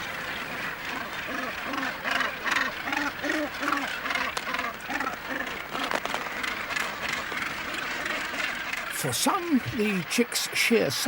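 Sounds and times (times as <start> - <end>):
rapid string of bird calls: 0.0 - 11.0
gannets giving harsh calls: 1.0 - 11.0.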